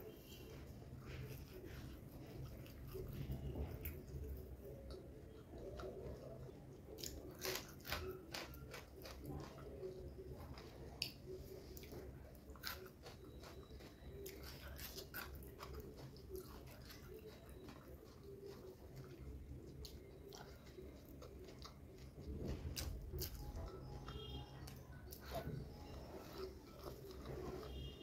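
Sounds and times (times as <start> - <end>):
wet chewing mouth sounds: 0.5 - 28.0.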